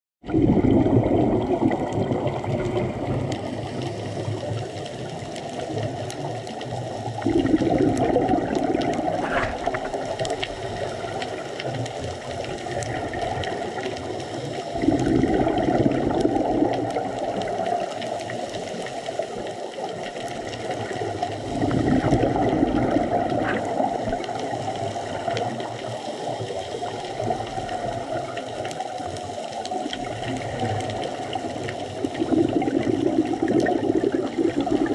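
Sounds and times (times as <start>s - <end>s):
scuba regulator bubbling exhalations: 0.2s - 6.1s, 6.8s - 34.9s
watery hiss: 2.7s - 6.0s, 6.6s - 34.9s.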